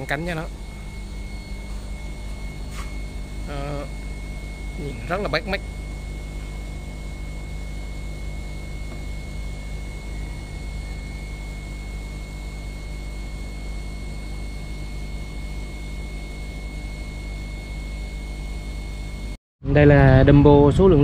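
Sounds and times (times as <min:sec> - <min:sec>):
machine hum: 0:00.0 - 0:21.0
thin high whine: 0:00.0 - 0:21.0.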